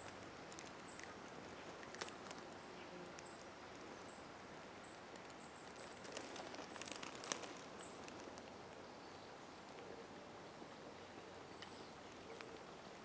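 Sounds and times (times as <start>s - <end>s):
countryside ambience: 0.0s - 13.0s.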